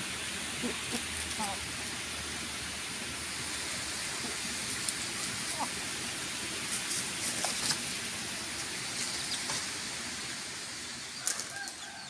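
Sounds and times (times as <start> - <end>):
chickens rustling in dry leaves: 0.0 - 12.0
steady outdoor hiss: 0.0 - 12.0.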